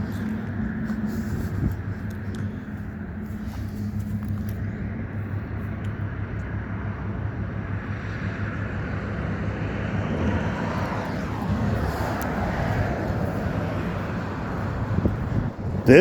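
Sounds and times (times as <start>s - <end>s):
traffic hum: 0.0s - 16.0s
vehicle passing by: 0.0s - 16.0s.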